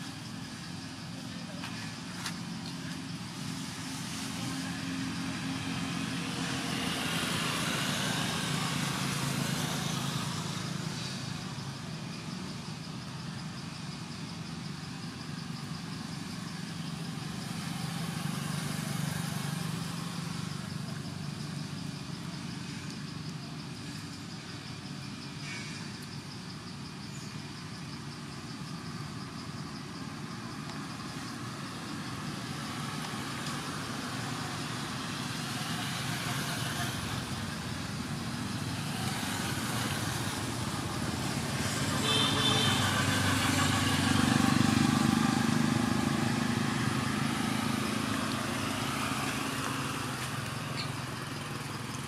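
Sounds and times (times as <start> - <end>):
engine rumble: 0.0 - 52.0.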